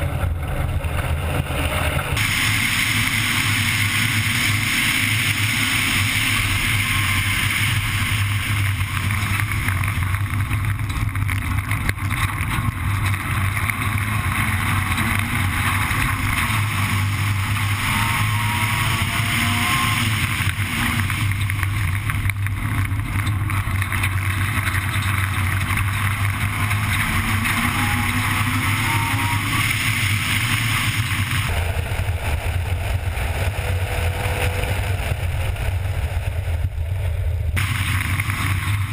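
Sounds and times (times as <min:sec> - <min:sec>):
tyres on gravel: 0:00.0 - 0:36.6, 0:37.5 - 0:38.9
rally car engine revving: 0:00.0 - 0:38.9.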